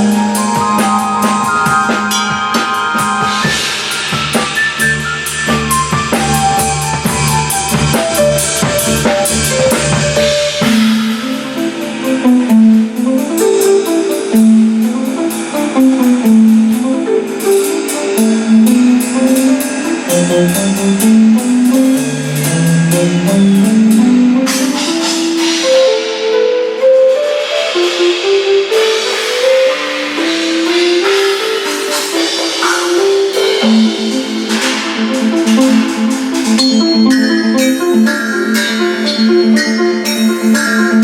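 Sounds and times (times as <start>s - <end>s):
drum kit with cymbals: 0.0s - 41.0s
melodic line stepping up and down: 0.0s - 41.0s.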